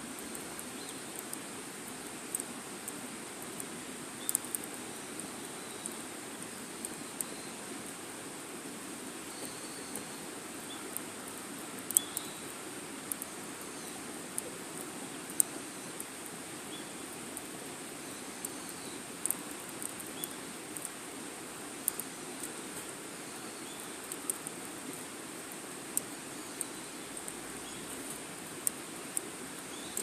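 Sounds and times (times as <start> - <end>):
fire crackling and popping: 0.0 - 23.0, 23.6 - 30.0.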